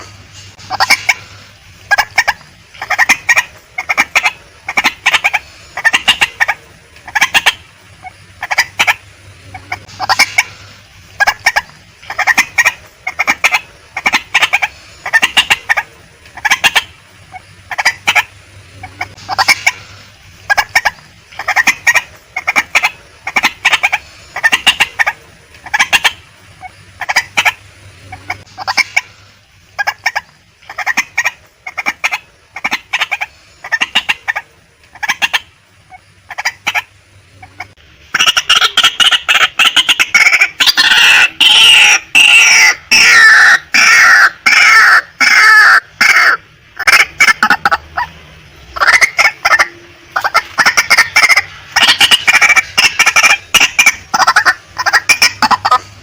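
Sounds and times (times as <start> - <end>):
waterhen harsh calls: 0.0 - 56.0.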